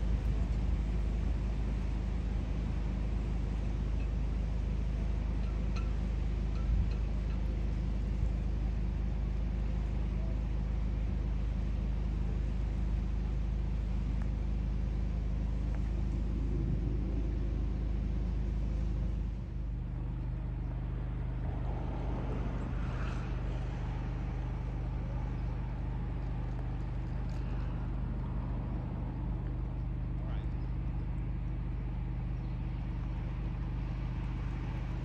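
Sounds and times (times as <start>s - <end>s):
boat diesel engine humming: 0.0s - 35.0s.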